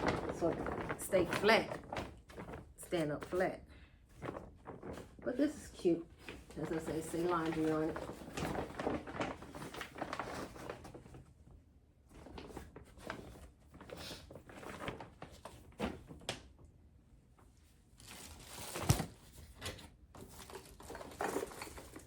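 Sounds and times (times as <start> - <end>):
packaging rustling: 0.0 - 3.5, 4.1 - 11.3, 12.1 - 16.5, 18.0 - 22.0.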